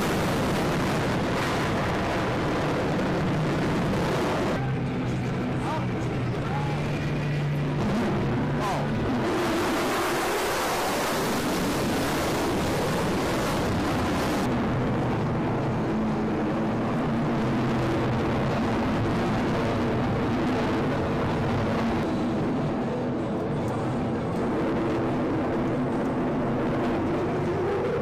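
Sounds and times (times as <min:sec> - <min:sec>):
jet engine passing overhead: 0:00.0 - 0:28.0.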